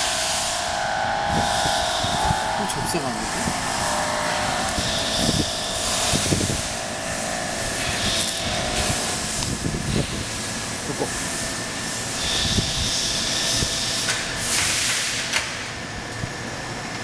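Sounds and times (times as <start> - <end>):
compressed air hiss: 0.0 - 10.5, 12.1 - 15.3
sharp air puffs: 0.0 - 15.6
constant high whine: 0.0 - 17.0.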